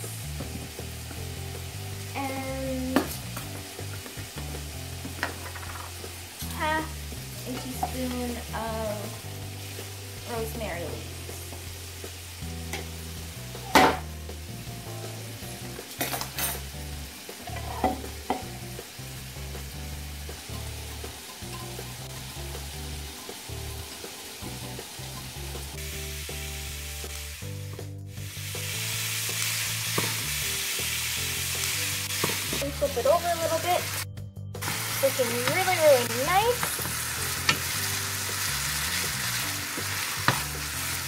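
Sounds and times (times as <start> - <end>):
chicken sizzling in frying pan: 0.0 - 34.0, 34.6 - 41.0
background music: 0.0 - 41.0.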